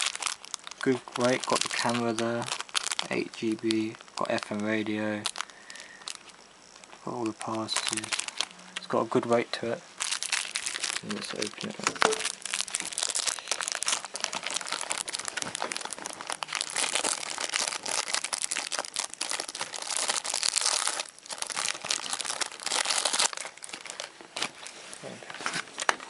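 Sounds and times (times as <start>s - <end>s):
packaging crinkling and tearing: 0.0s - 26.0s.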